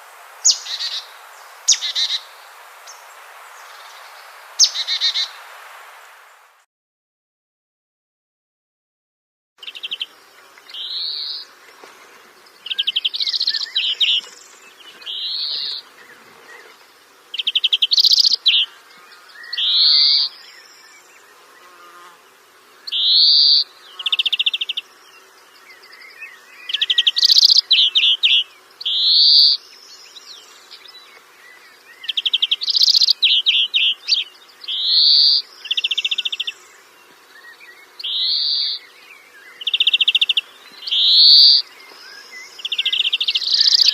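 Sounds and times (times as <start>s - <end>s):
songbird calling: 0.0s - 5.4s, 9.6s - 43.9s.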